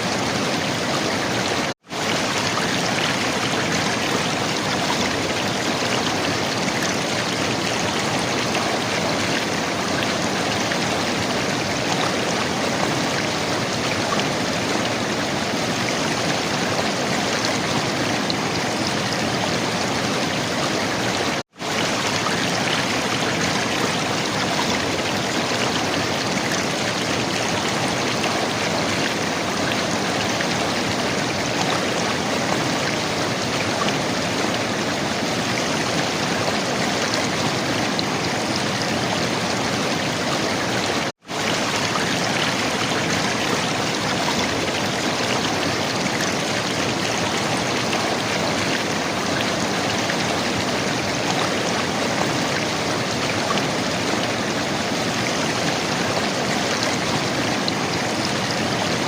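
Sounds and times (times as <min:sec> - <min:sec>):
river water flowing and gurgling: 0:00.0 - 0:59.0.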